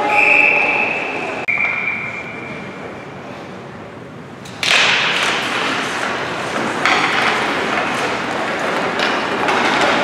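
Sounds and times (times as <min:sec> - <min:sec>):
hockey rink noise: 0:00.0 - 0:10.0.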